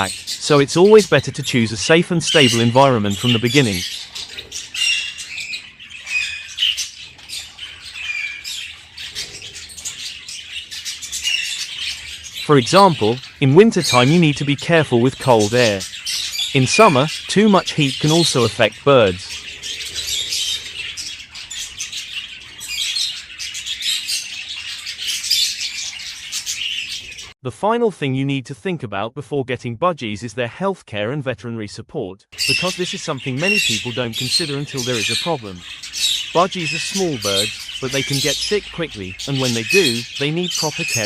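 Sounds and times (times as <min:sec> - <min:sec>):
budgerigars chattering: 0:00.0 - 0:27.4, 0:32.4 - 0:41.0.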